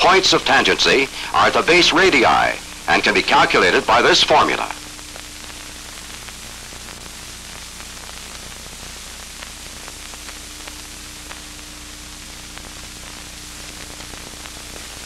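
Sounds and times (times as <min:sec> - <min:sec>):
faint crackles: 0:00.0 - 0:15.0
steady film soundtrack hiss: 0:00.0 - 0:15.0.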